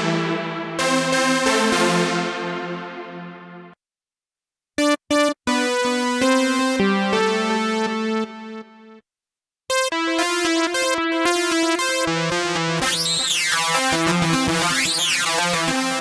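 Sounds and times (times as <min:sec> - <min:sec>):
fast repeated synthesizer chords: 0:00.0 - 0:03.8, 0:04.8 - 0:08.8, 0:09.7 - 0:16.0
synthesizer chord stabs: 0:00.0 - 0:03.8, 0:04.8 - 0:09.0, 0:09.7 - 0:16.0.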